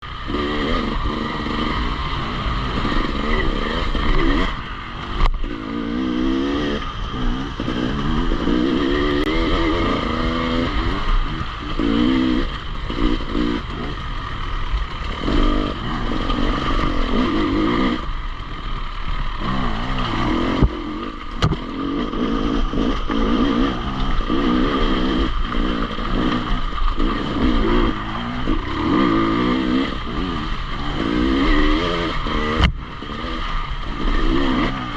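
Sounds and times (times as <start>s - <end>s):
clatter: 0.0s - 34.9s
motorcycle engine revving: 0.0s - 34.9s.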